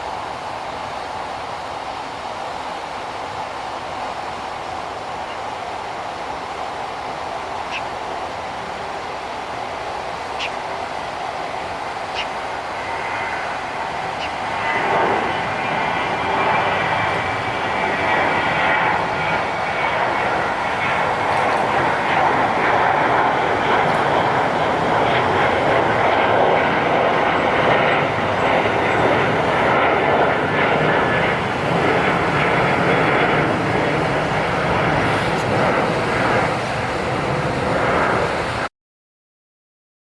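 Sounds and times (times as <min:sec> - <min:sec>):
jet engines roaring: 0:04.3 - 0:38.7.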